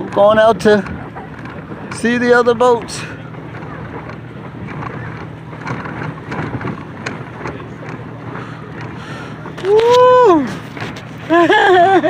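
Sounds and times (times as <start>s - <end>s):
wind on microphone: 0.0s - 11.3s
small boat under way: 0.0s - 12.0s.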